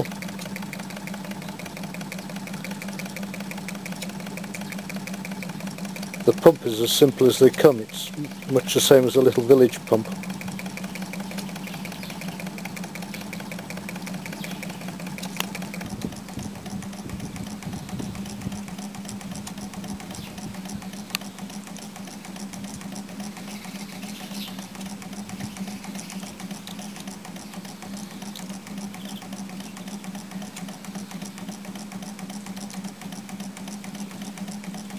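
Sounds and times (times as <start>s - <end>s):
sharp clicks: 0.0s - 34.9s
small engine humming and rattling: 0.0s - 34.9s.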